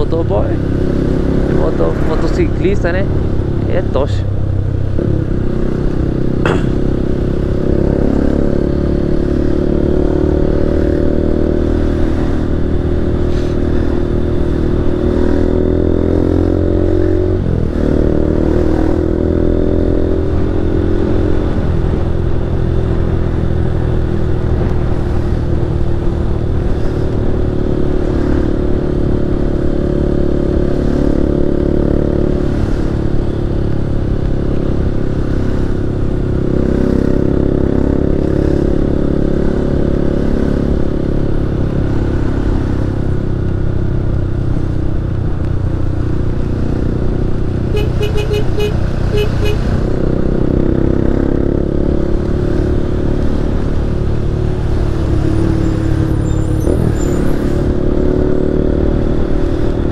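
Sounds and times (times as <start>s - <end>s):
motorcycle engine running: 0.0s - 56.6s.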